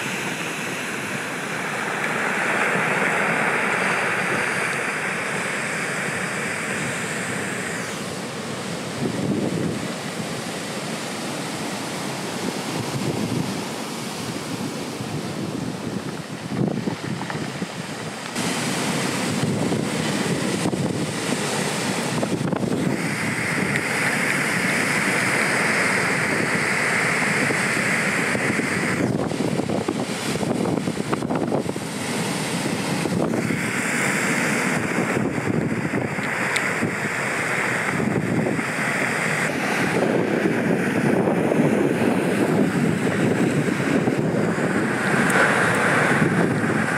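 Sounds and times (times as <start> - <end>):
ocean surf breaking: 0.0 - 46.9
wind on microphone: 0.0 - 46.9.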